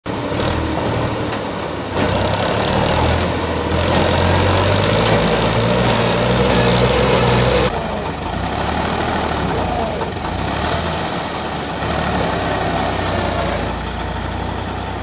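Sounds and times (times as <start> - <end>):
tractor diesel engine straining: 0.0 - 15.0.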